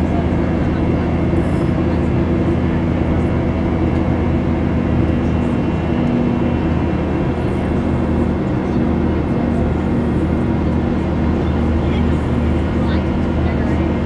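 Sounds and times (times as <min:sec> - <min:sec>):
jet engines droning: 0:00.0 - 0:14.0.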